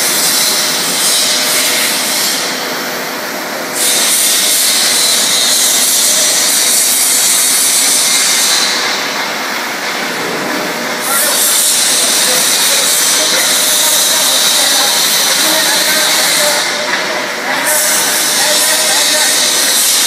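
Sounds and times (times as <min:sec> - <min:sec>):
machine hissing: 0:00.0 - 0:20.0.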